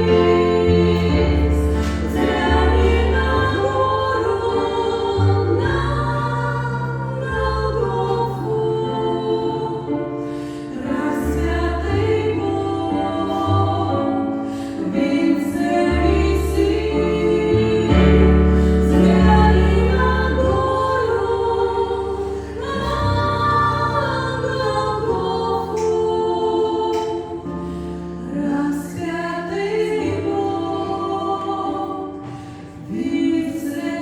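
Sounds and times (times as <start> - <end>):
choir singing a hymn: 0.0 - 34.0.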